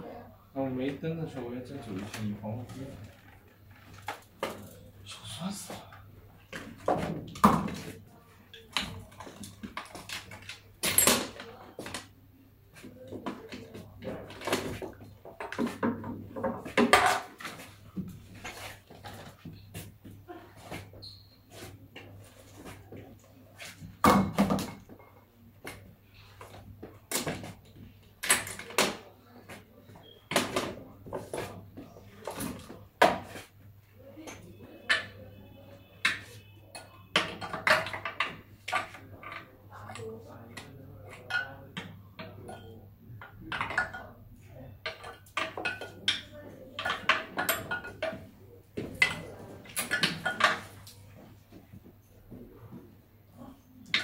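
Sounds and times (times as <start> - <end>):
objects knocking and scraping: 1.3 - 33.6, 36.0 - 54.0.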